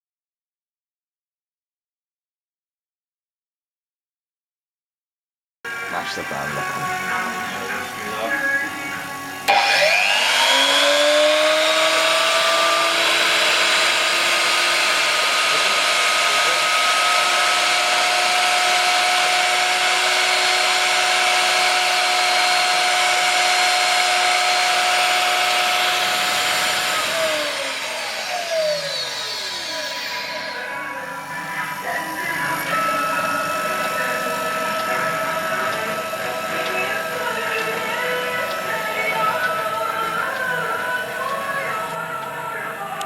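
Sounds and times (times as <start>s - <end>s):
spindle motor whine: 5.7s - 43.0s.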